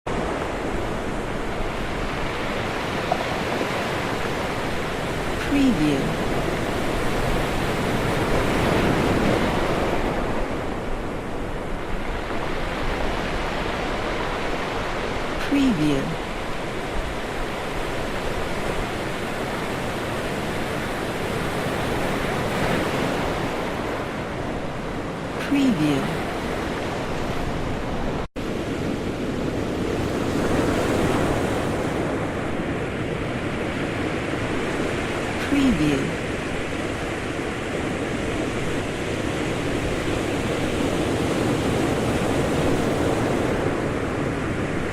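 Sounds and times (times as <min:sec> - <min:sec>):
ocean waves crashing: 0:00.1 - 0:44.9.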